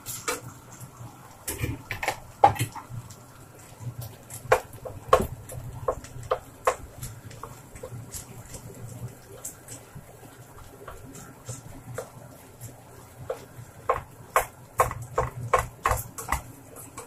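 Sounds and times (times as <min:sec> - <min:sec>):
meat sauteing: 0:00.0 - 0:17.0.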